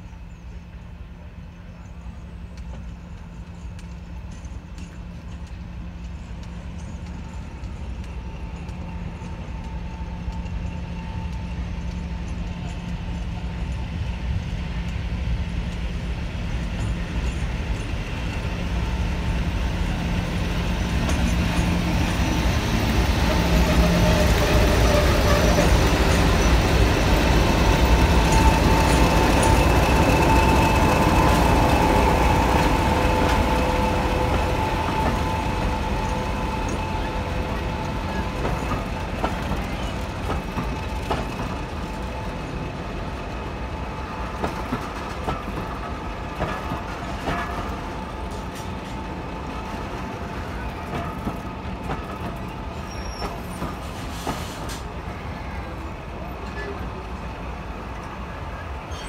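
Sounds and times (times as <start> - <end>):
diesel locomotives passing: 0.0 - 59.0.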